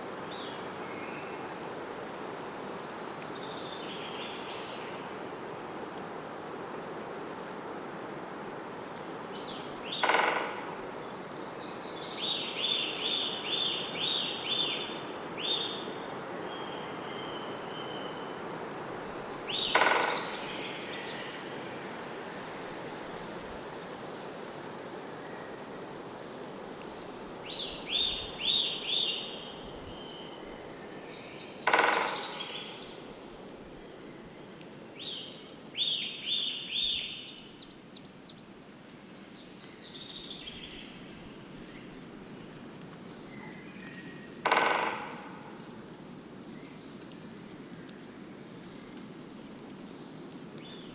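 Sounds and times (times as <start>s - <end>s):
outdoor background hiss: 0.0s - 50.9s.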